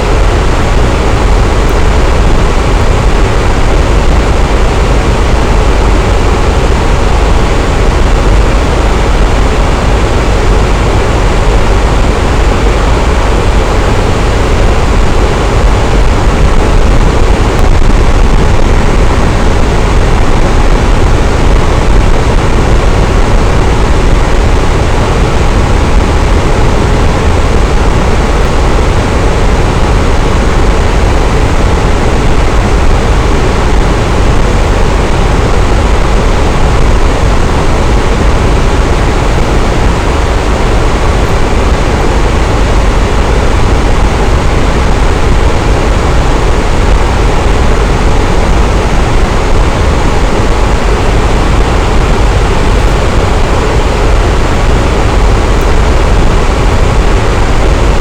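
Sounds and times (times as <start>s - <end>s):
electric fan whooshing: 0.0s - 58.0s.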